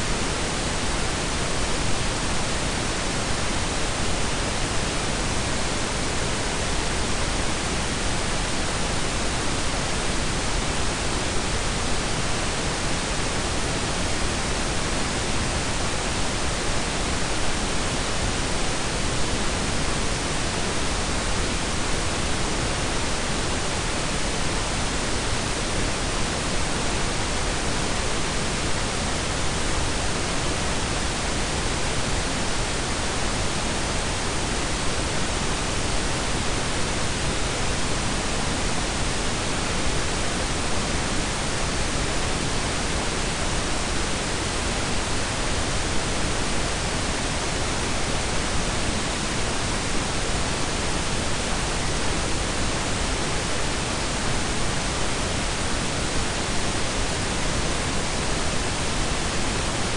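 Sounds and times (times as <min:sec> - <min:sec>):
low-weighted noise hiss: 0:00.0 - 0:59.9.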